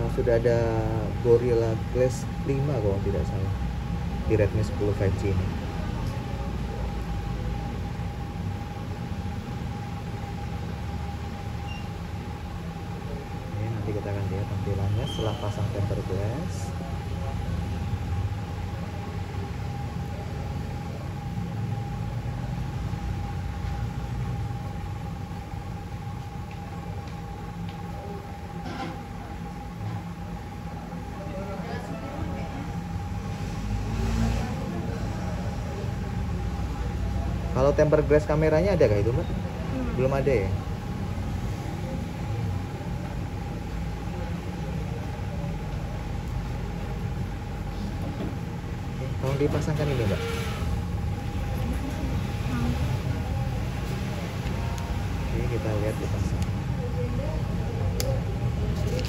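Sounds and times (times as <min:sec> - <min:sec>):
thin steady hum: 0:00.0 - 0:59.0.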